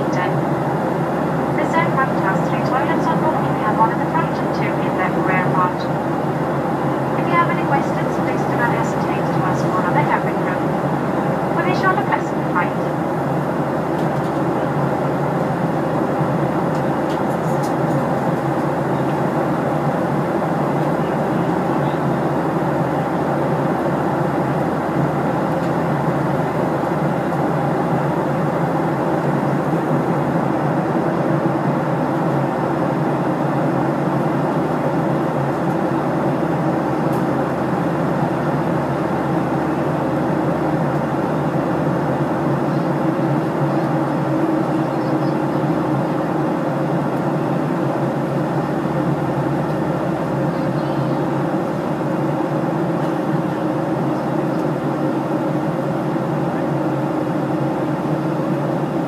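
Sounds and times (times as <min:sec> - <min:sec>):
airliner cabin drone: 0:00.0 - 0:59.0.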